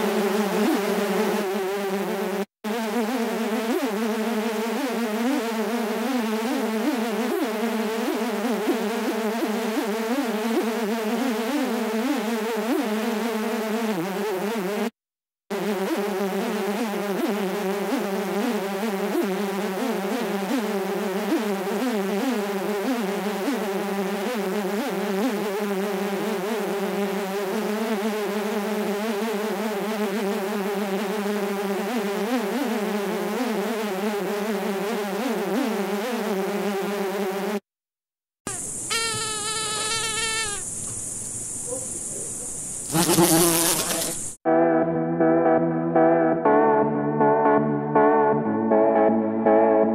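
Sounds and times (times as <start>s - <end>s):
mosquito buzzing: 0.0s - 37.7s, 38.5s - 44.4s.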